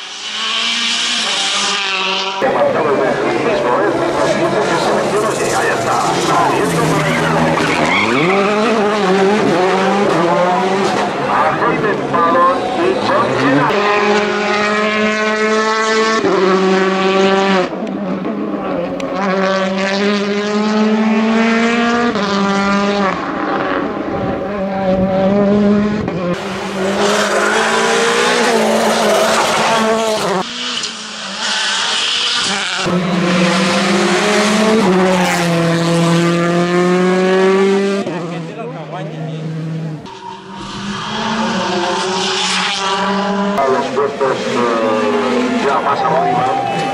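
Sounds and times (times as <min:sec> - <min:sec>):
rally car engines accelerating: 0:00.0 - 0:46.9.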